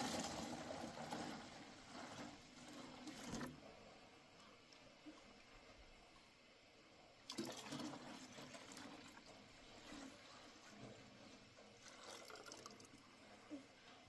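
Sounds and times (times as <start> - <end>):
faint running water: 0.0 - 14.0.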